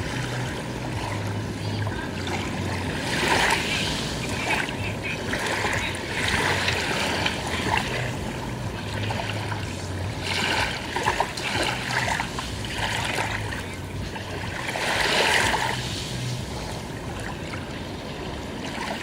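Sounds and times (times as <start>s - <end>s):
low steady hum: 0.0s - 19.0s
small waves lapping at shore: 0.0s - 19.0s.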